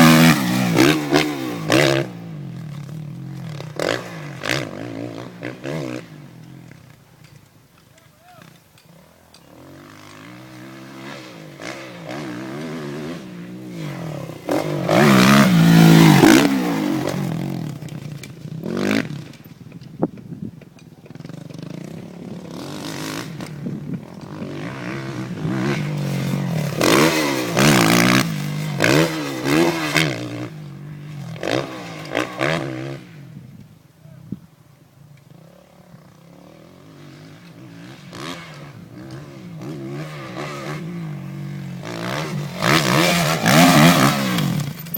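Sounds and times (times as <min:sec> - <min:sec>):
motocross engine revving: 0:00.0 - 0:06.3, 0:09.5 - 0:19.3, 0:21.2 - 0:33.1, 0:36.8 - 0:44.9.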